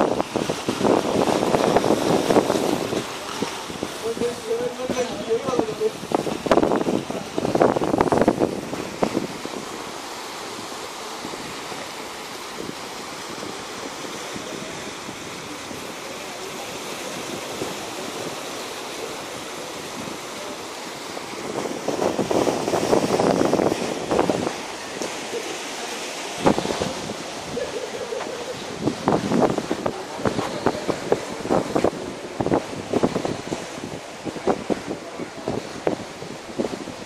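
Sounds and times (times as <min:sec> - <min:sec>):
sea waves on rocky shore: 0:00.0 - 0:37.0.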